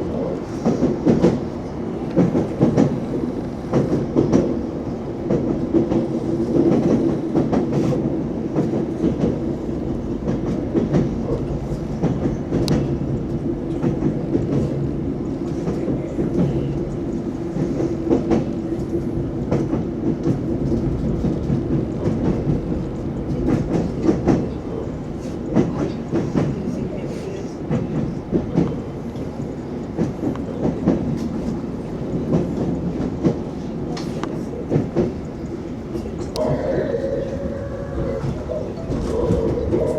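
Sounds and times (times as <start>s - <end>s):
electric train running hum: 0.0s - 39.9s.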